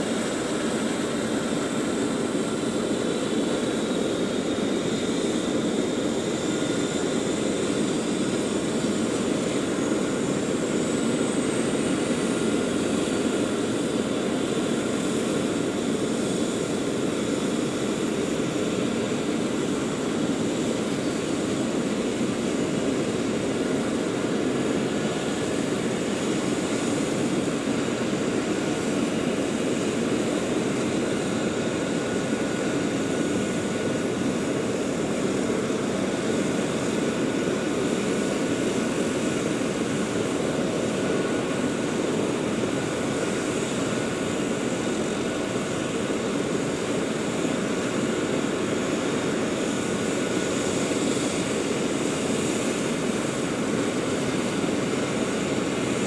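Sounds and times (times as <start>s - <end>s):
turbine engines whining: 0.0s - 56.0s.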